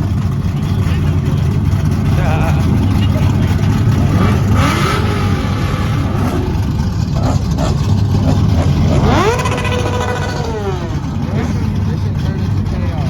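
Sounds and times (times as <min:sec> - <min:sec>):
car engines rumbling: 0:00.0 - 0:13.0
engine revving up: 0:01.8 - 0:13.0.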